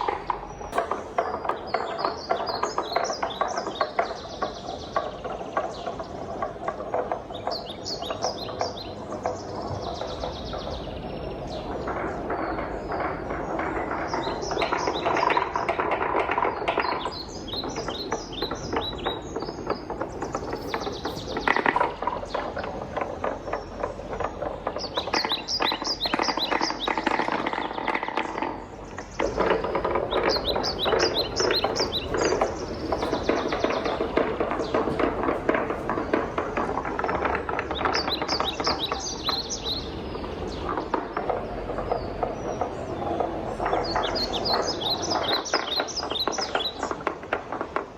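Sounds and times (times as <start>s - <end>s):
wooden balls rattling in marble run: 0.0s - 47.9s.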